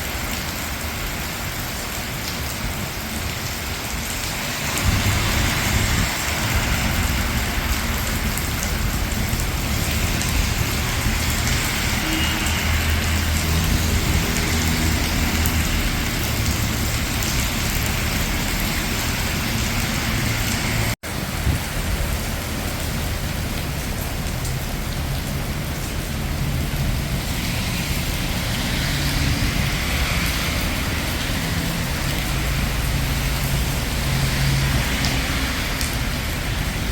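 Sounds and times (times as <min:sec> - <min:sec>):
cars passing on wet road: 0:00.0 - 0:36.9
rain falling on street: 0:00.0 - 0:36.9.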